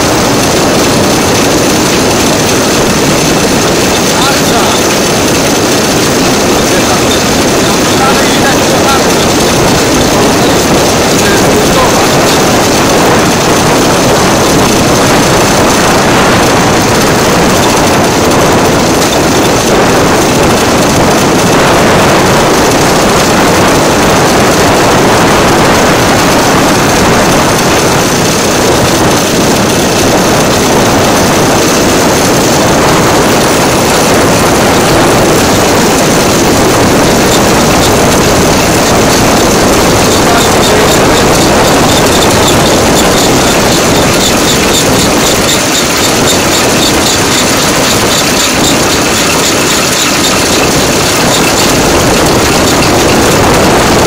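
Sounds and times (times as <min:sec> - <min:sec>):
rail vehicle running on track: 0:00.0 - 0:54.0.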